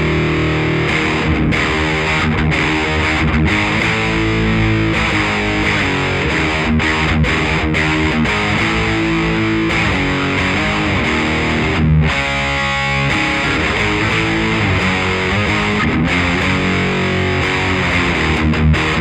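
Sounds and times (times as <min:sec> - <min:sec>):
overdriven electric guitar riffing: 0:00.0 - 0:19.0.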